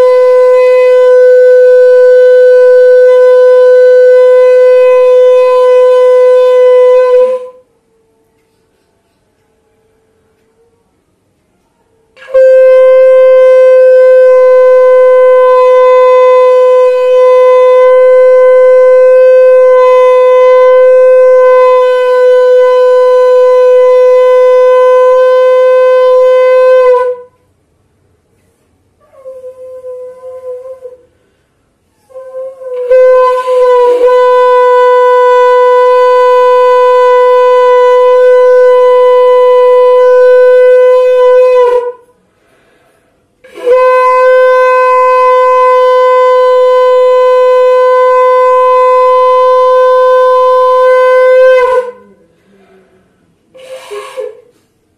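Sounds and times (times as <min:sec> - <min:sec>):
conch shell blasts: 0:00.0 - 0:08.7, 0:12.1 - 0:27.5, 0:32.1 - 0:42.2, 0:43.4 - 0:52.3, 0:53.5 - 0:54.7.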